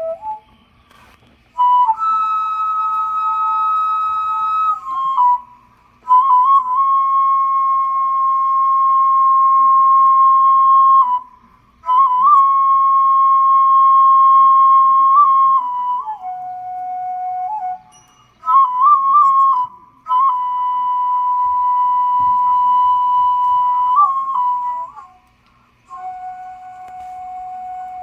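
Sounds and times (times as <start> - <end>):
flute playing long notes: 0.0 - 28.0.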